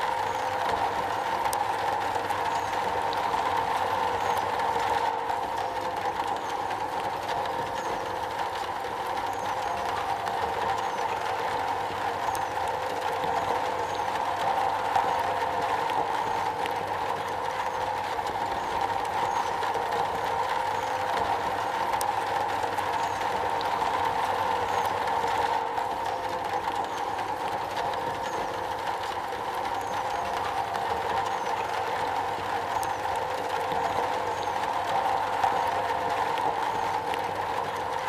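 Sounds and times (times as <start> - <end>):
rain on a metal roof: 0.0 - 38.0.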